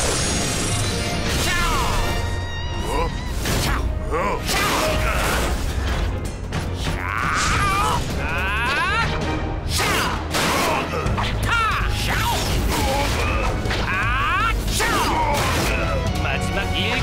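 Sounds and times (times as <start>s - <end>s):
action music: 0.0s - 17.0s.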